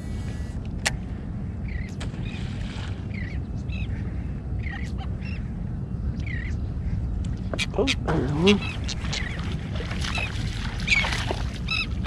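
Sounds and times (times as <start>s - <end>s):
seagulls calling: 1.6s - 12.0s.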